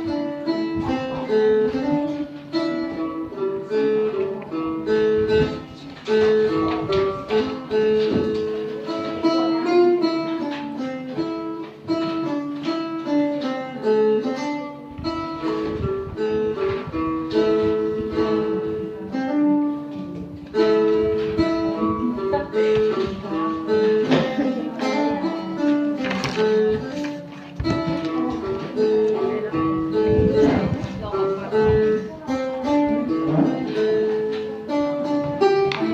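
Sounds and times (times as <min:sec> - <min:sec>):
plucked lute melody: 0:00.0 - 0:35.9.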